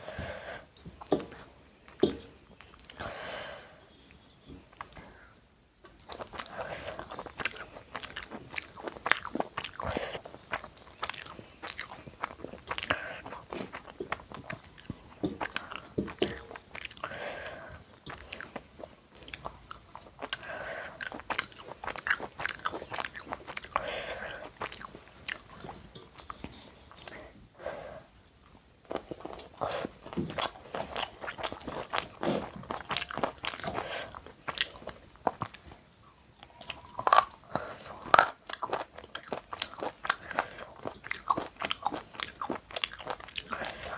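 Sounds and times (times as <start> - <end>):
person chewing: 3.9 - 5.3, 5.9 - 27.4, 28.4 - 43.9.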